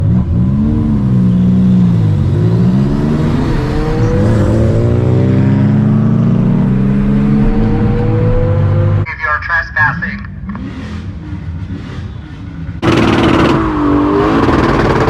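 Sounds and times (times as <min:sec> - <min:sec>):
car engine revving: 0:00.0 - 0:09.1, 0:10.2 - 0:15.0.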